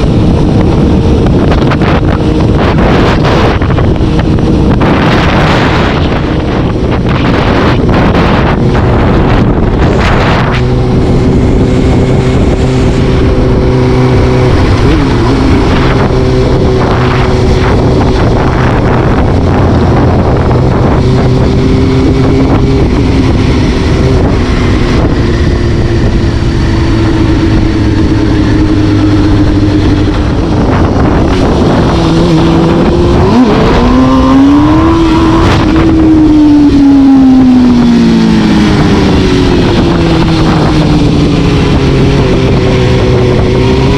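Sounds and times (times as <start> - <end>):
vehicle engine running: 0.0 - 43.9
wind rush: 0.0 - 43.9.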